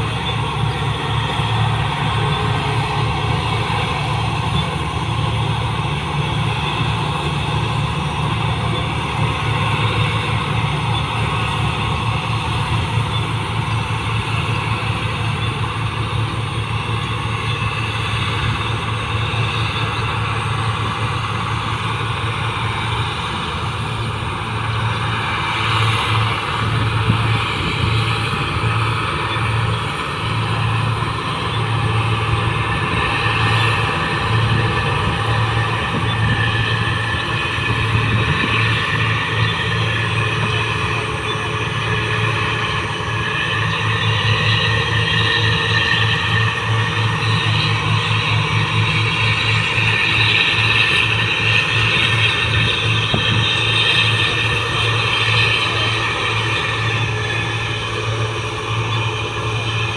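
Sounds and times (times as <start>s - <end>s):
combine harvester engine drone: 0.0s - 59.9s
threshing machinery rumbling: 0.0s - 59.9s.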